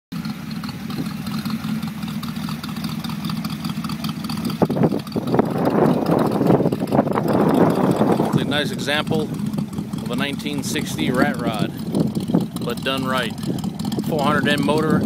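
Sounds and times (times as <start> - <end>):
truck engine idling: 0.1 - 15.0.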